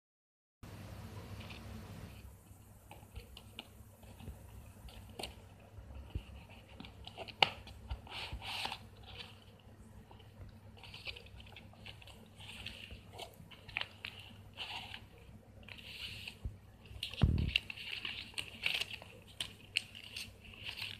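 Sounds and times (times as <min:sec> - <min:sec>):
faint low hum: 0:00.7 - 0:20.9
paper and card rustling: 0:01.2 - 0:20.9.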